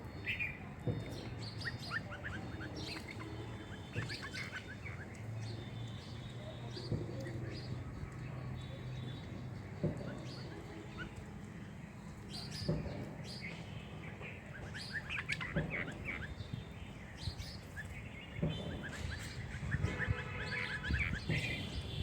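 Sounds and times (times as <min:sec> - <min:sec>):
small birds twittering: 0:00.0 - 0:22.0.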